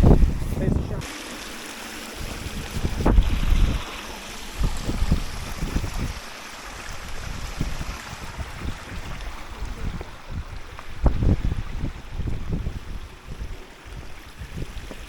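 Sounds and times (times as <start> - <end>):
wind buffeting microphone: 0.0 - 1.1, 2.0 - 15.0.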